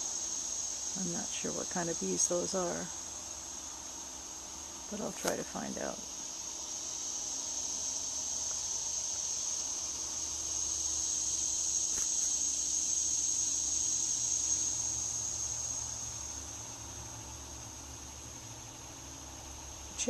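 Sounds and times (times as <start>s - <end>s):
insect chorus shrilling: 0.0s - 20.0s.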